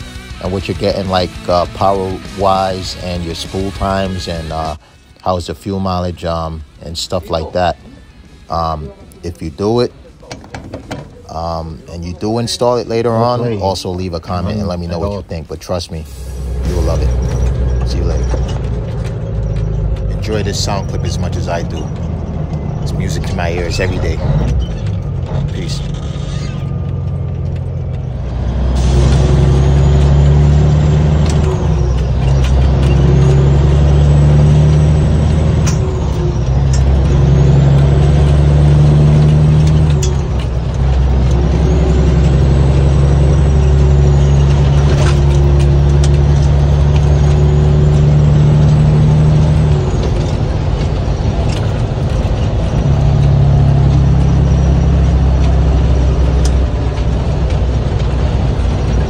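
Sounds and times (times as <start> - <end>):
truck diesel engine accelerating: 0.0 - 59.0.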